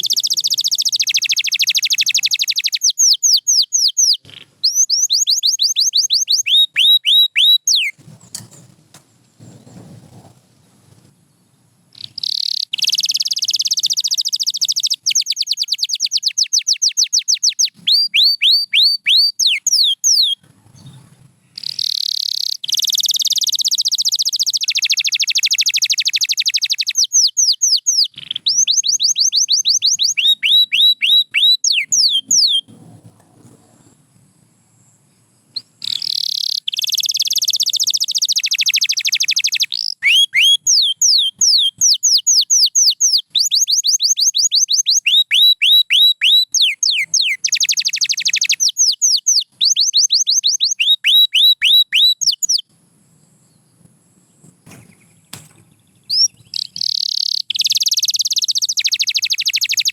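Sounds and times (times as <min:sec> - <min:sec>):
canary singing: 0:00.0 - 0:08.7, 0:11.9 - 0:33.6, 0:35.5 - 0:52.7, 0:53.5 - 0:59.9.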